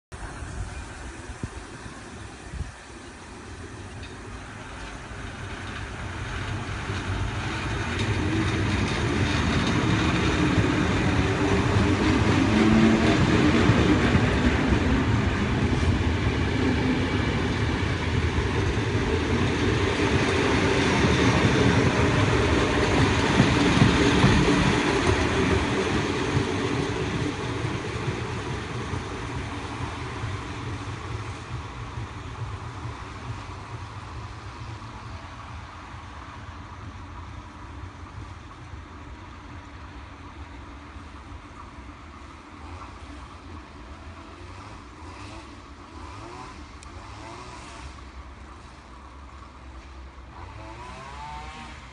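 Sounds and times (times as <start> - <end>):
electric train accelerating past: 0.2 - 51.9.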